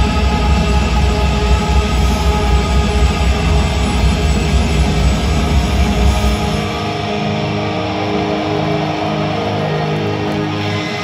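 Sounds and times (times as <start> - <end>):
post-metal band playing loud: 0.0 - 11.0.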